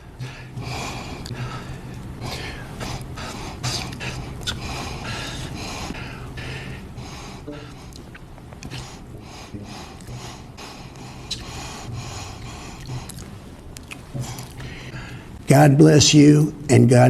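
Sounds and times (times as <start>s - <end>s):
sniffs: 0.0s - 15.4s
man breathing heavily into microphone: 0.0s - 15.5s
mouth clicks: 0.0s - 15.6s
low hum: 0.0s - 16.7s.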